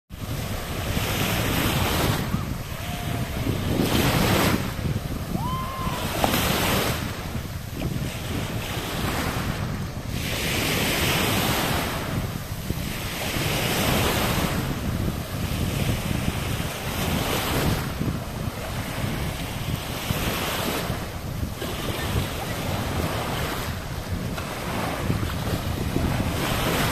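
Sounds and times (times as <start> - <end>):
waves washing up sandy shore: 0.1 - 26.9
wind buffeting microphone: 0.1 - 26.9.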